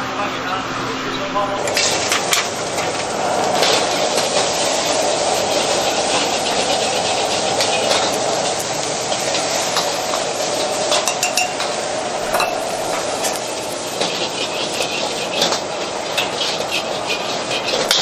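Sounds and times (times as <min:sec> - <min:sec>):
gas burner rushing: 0:00.0 - 0:18.0
rice sizzling: 0:00.0 - 0:18.0.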